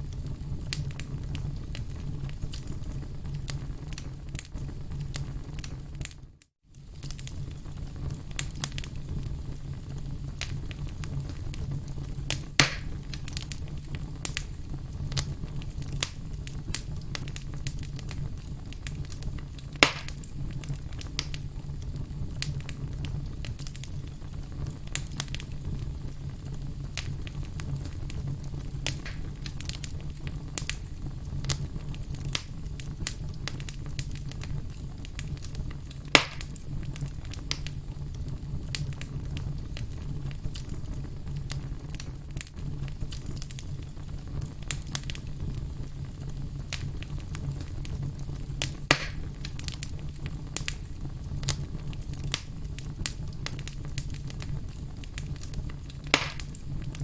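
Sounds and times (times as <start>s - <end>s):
firewood crackling: 0.0s - 57.0s
loud sharp fire pops: 10.3s - 37.8s, 38.6s - 57.0s.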